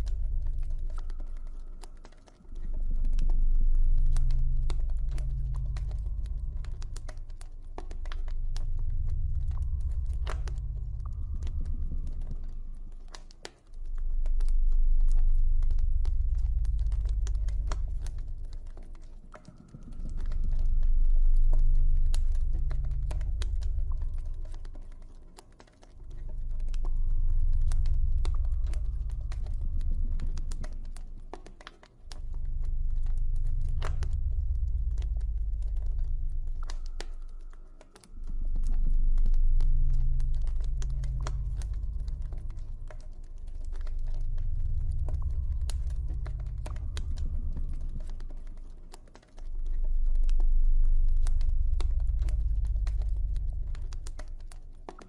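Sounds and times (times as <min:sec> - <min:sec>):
deep ambient drone: 0:00.0 - 0:55.0.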